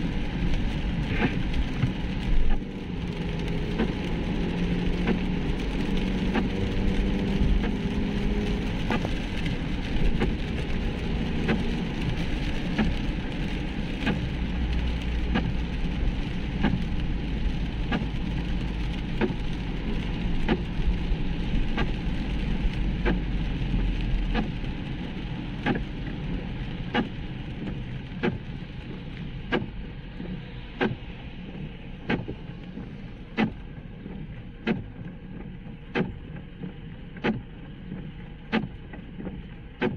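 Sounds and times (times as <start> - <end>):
rain on a car: 0.0 - 39.9
tyre and engine rumble: 0.0 - 39.9
windscreen wipers ticking: 0.0 - 39.9.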